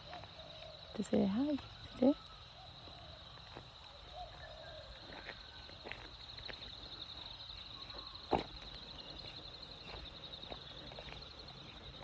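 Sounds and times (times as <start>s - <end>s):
footsteps on bush path: 0.0s - 12.0s.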